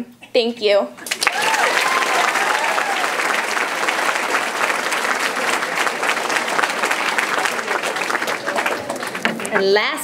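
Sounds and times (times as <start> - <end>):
audience applauding: 1.0 - 9.8.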